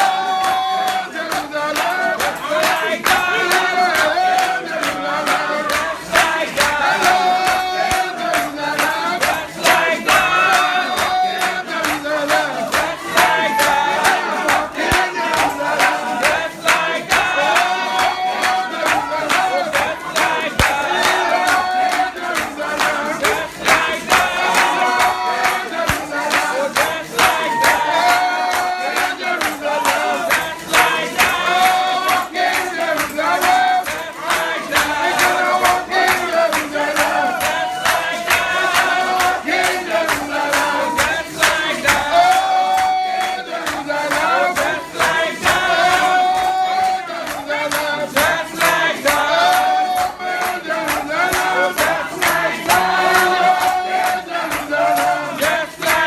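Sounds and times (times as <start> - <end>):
congregation singing a hymn: 0.0 - 56.0
steady percussive beat: 0.0 - 56.0.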